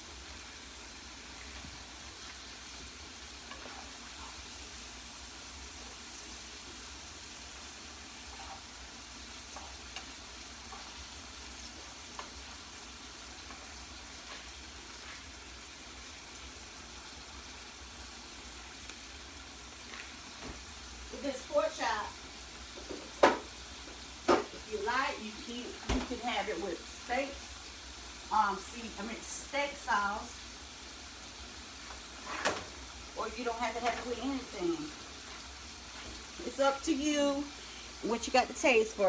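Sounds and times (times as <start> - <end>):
meat sizzling in a frying pan: 0.0 - 39.0.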